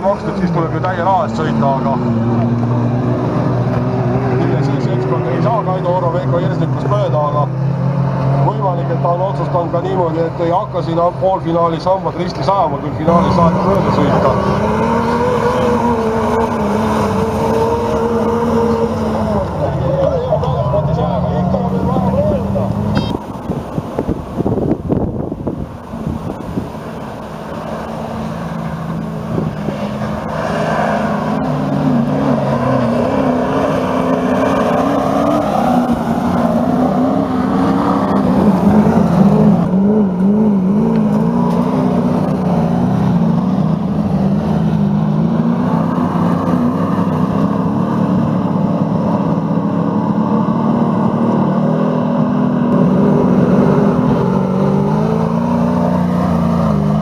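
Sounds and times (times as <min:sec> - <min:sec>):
race truck engines revving: 0:00.0 - 0:57.0.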